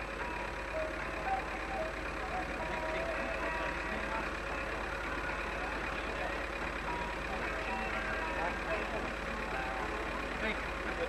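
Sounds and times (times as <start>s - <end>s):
constant low hum: 0.0s - 11.0s
vehicle engine idling: 0.0s - 11.0s.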